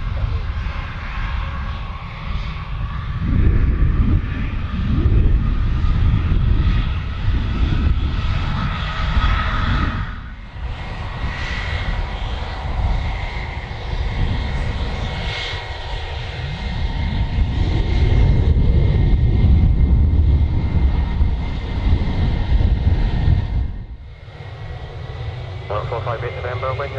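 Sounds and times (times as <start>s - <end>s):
airliner engines rumbling and whining: 0.0s - 26.9s.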